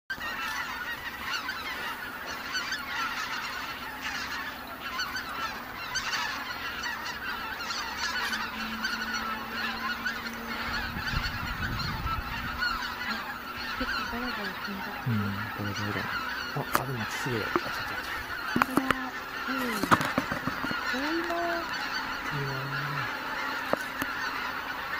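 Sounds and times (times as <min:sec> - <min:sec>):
flock of geese calling: 0:00.1 - 0:24.9.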